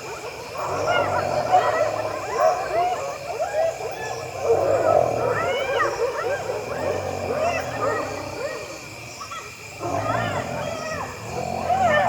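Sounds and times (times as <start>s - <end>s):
hyenas calling: 0.0s - 12.0s.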